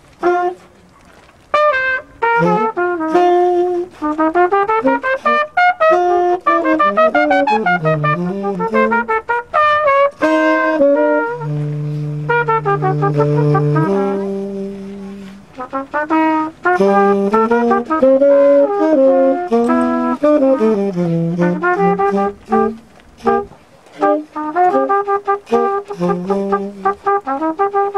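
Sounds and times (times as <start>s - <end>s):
saxophone playing jazz: 0.0s - 27.9s
trumpet playing jazz: 0.0s - 27.9s.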